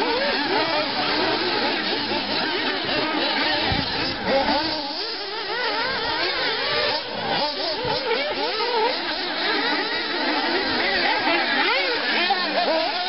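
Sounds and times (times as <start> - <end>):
rc buggy engines whining: 0.0 - 13.0.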